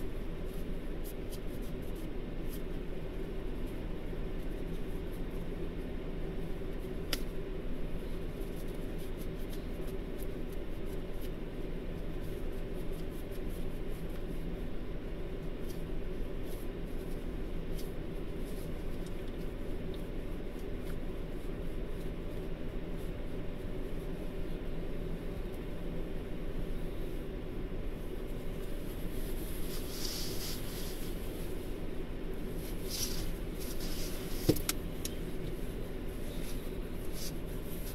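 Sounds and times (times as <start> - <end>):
low hum inside car cabin: 0.0 - 37.9.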